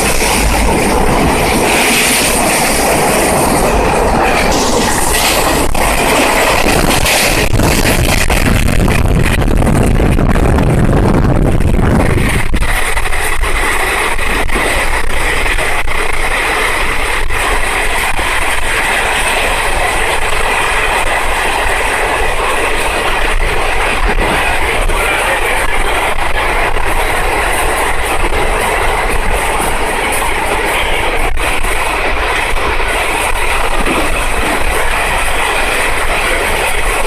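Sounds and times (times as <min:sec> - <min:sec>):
deep train rumble: 0:00.0 - 0:37.0
rail joint clicks: 0:00.0 - 0:37.0
train wheel and track noise: 0:00.0 - 0:37.0.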